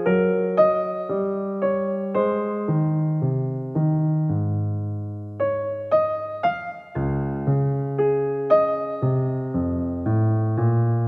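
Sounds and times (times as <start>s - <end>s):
soft piano piece: 0.0s - 11.0s.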